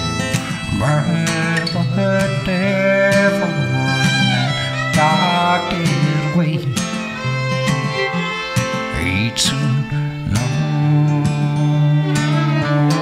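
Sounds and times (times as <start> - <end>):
acoustic guitar strumming: 0.0 - 13.0
fiddle playing melody: 0.0 - 13.0.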